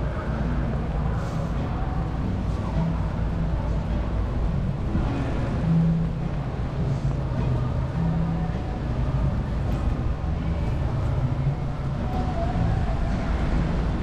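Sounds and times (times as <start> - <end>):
city street noise: 0.0 - 14.0
vehicle engine humming: 0.0 - 14.0.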